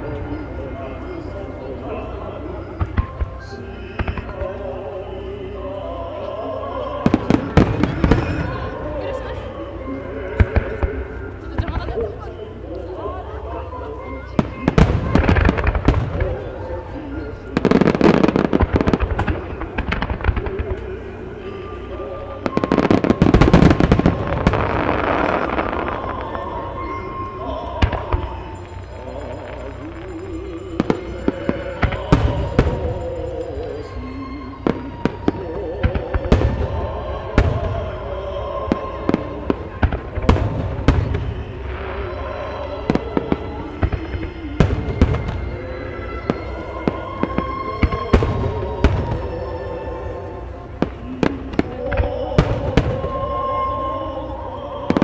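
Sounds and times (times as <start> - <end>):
music playing: 0.0 - 55.0
rumbling echo: 0.0 - 55.0
fireworks bursting with bangs: 2.6 - 4.9, 6.8 - 9.2, 14.3 - 21.2, 22.0 - 55.0.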